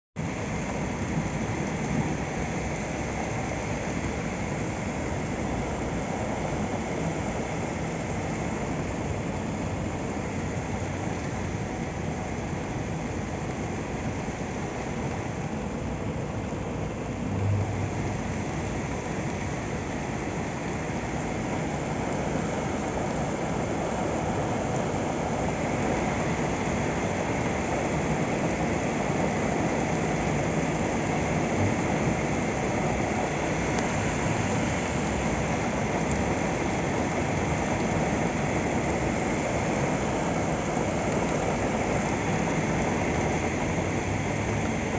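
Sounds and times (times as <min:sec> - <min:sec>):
heavy rain pouring on pavement: 0:00.2 - 0:44.9.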